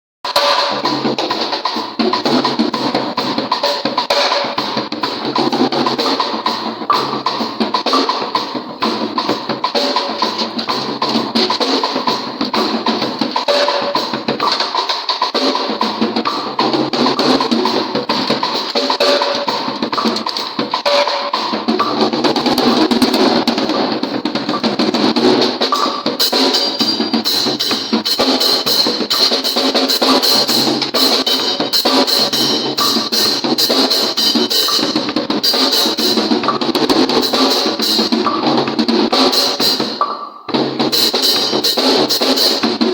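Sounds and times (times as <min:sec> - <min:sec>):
drum kit playing a groove: 0:00.2 - 0:42.9.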